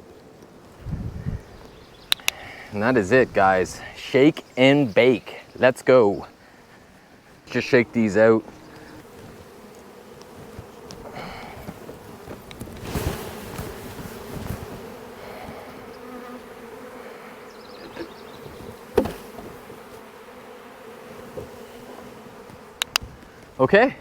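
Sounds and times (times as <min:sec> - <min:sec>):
bees buzzing: 0:00.0 - 0:23.6.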